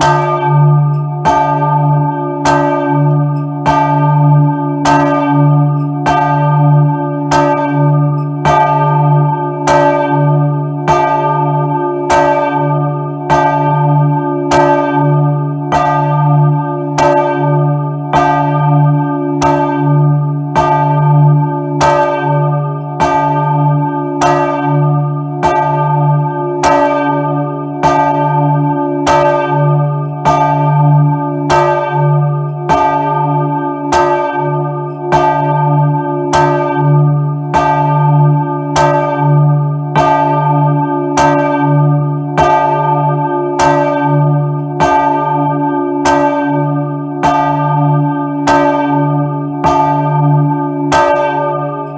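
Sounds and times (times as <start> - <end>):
large church bell clanging: 0.0 - 51.9.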